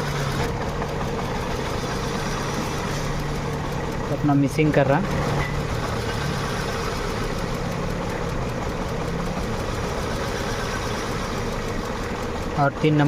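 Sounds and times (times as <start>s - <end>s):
misfiring engine idling: 0.0s - 13.0s.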